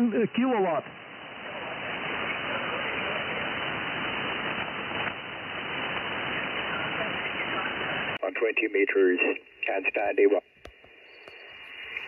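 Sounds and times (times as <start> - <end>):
shortwave radio hiss: 0.0 - 12.0.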